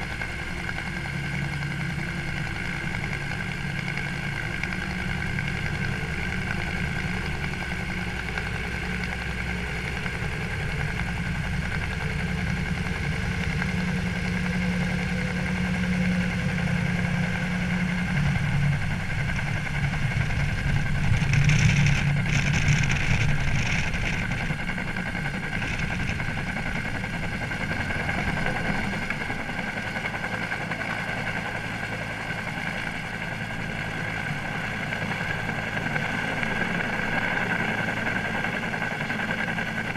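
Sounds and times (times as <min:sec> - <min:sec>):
helicopter rotor beat: 0:00.0 - 0:39.9
turbine whine: 0:00.0 - 0:39.9.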